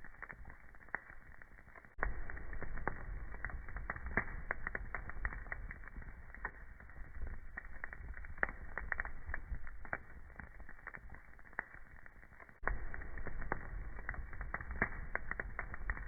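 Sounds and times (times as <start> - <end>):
burning wood crackling: 0.0 - 16.0
low rumble of flame: 0.0 - 16.0.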